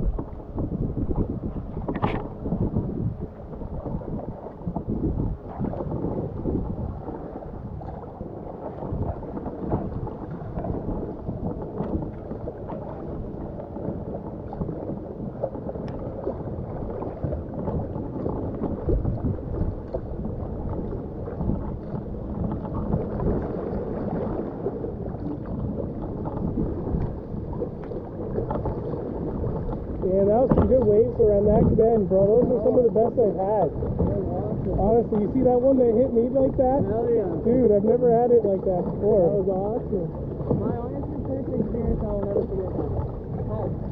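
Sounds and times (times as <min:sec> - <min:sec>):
waves splashing against a kayak: 0:00.0 - 0:43.9.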